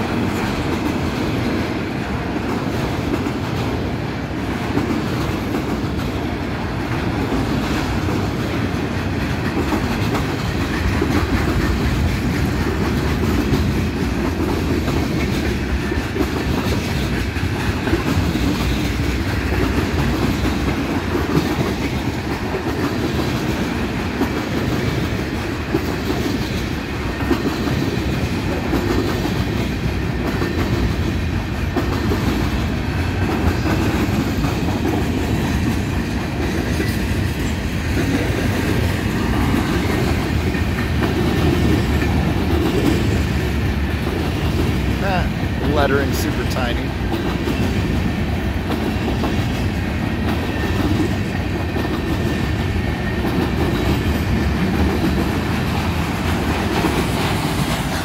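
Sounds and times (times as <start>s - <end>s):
train wheels running on rails: 0.0s - 58.0s.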